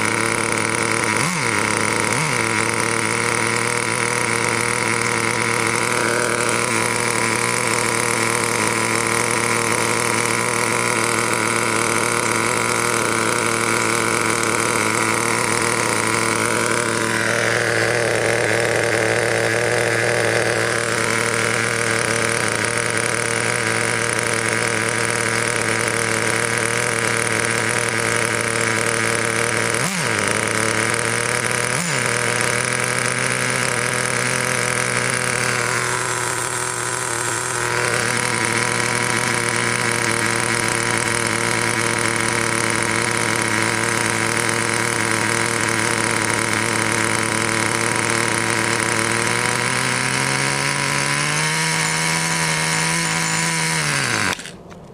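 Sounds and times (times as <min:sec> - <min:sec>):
model engine idling: 0:00.0 - 0:54.9.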